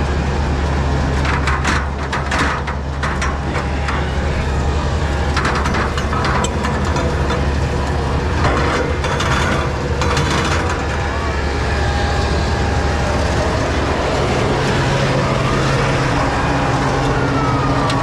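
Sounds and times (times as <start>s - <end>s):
fire engine engine rumbling: 0.0s - 18.0s.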